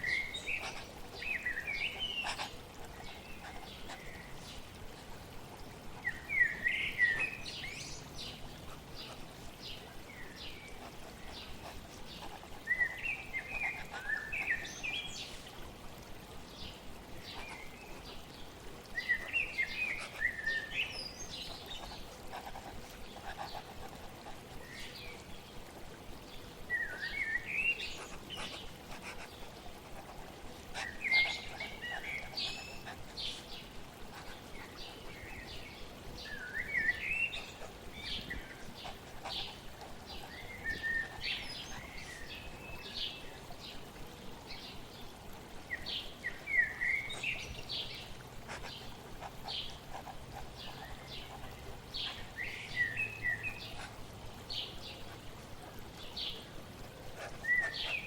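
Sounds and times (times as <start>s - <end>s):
flowing water hiss: 0.0s - 58.0s.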